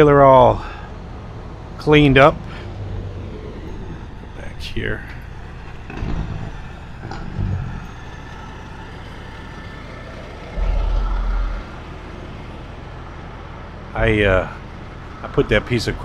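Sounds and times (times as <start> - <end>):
trucks idling: 0.0 - 16.0.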